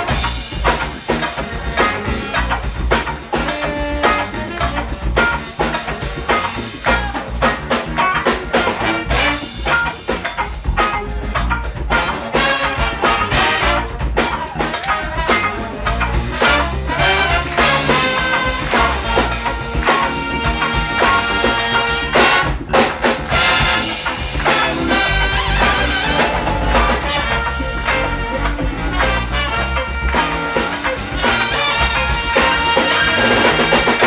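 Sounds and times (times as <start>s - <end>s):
big band playing: 0.0s - 34.0s.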